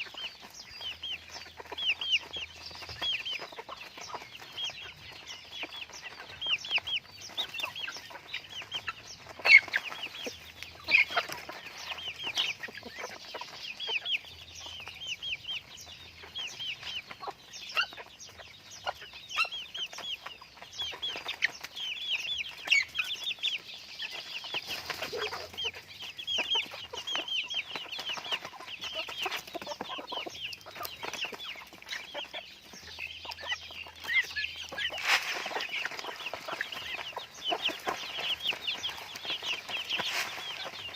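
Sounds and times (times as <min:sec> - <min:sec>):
chickens calling: 0:00.0 - 0:40.9.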